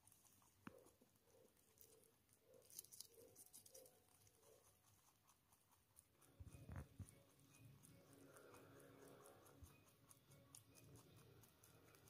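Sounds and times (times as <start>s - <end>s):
rabbit chewing peas: 0.0s - 12.0s.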